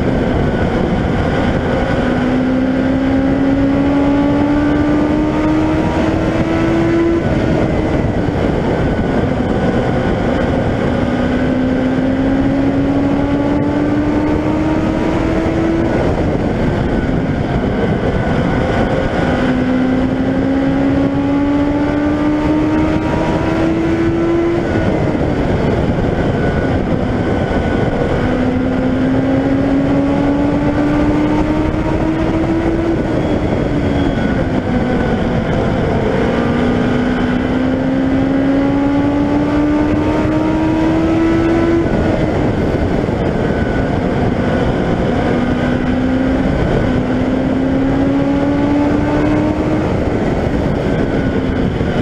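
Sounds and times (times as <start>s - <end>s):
motorcycle engine revving: 0.0s - 52.0s
wind and road noise: 0.0s - 52.0s.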